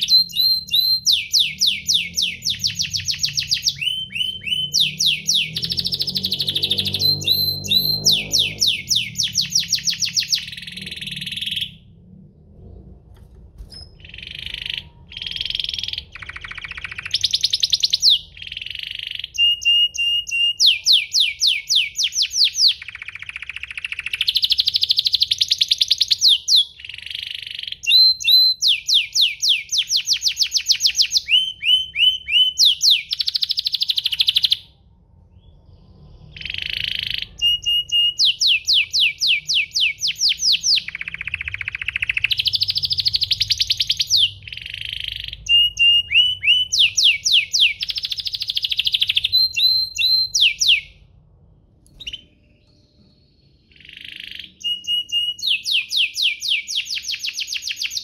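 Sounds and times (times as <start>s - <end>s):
canary singing trills: 0.0s - 12.0s, 13.6s - 51.0s, 51.9s - 58.0s.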